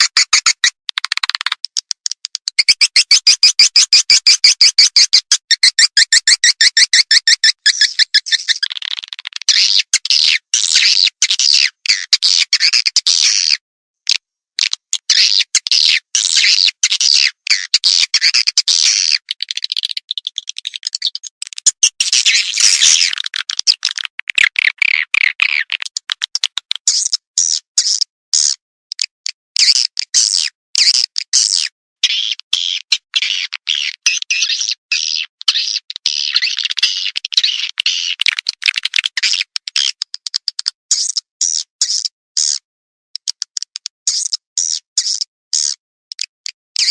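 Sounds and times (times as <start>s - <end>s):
swiftlet chattering chirps and clicks: 0.0s - 13.0s, 14.1s - 42.6s, 43.2s - 46.9s.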